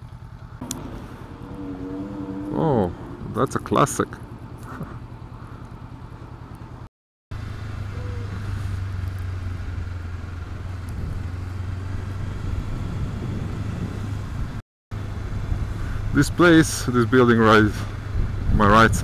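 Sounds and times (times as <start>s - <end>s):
motorcycle engine running: 0.0s - 16.2s
road and wind noise: 0.0s - 19.0s.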